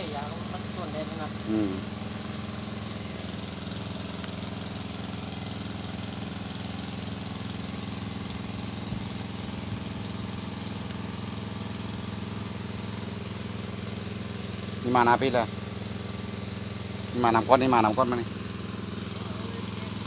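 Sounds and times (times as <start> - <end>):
engine-driven water pump running: 0.0 - 20.0.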